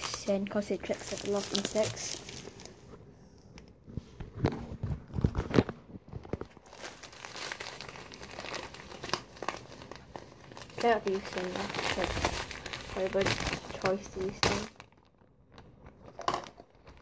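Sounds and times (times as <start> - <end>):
plastic bag crinkling and rustling: 0.0 - 3.0, 4.3 - 17.0.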